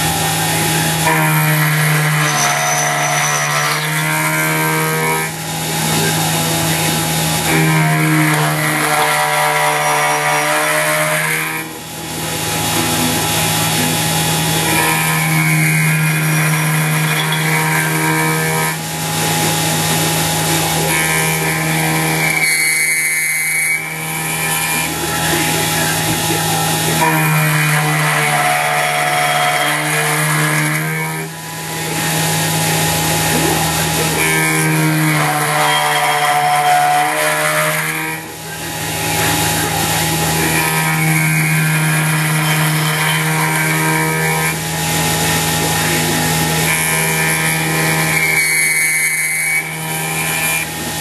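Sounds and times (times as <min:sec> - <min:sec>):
feed drive whining: 0:00.0 - 0:51.0
spindle motor humming: 0:00.0 - 0:51.0.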